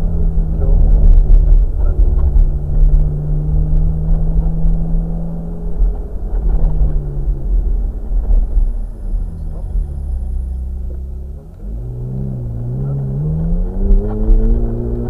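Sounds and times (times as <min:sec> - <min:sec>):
car engine cruising: 0:00.0 - 0:15.0
low rumble of wind and road noise: 0:00.0 - 0:15.0.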